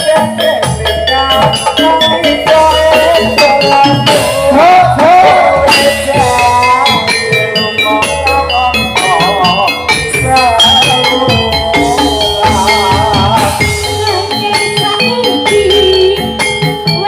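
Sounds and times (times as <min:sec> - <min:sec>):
gamelan music over sound system: 0:00.0 - 0:17.0.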